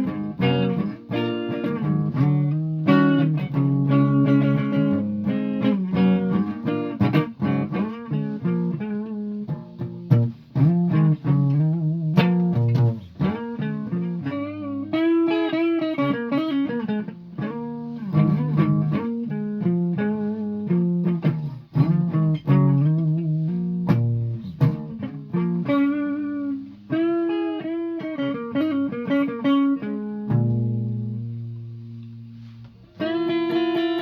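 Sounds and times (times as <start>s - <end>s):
solo guitar plucked notes: 0.0s - 34.0s.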